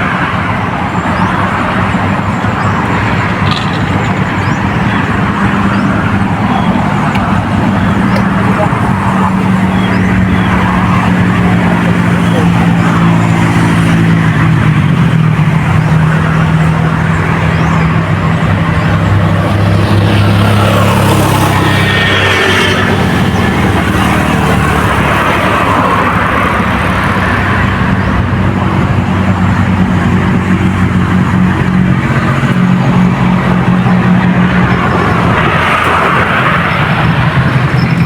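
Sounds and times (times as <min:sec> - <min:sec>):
engine running loudly: 0:00.0 - 0:38.0.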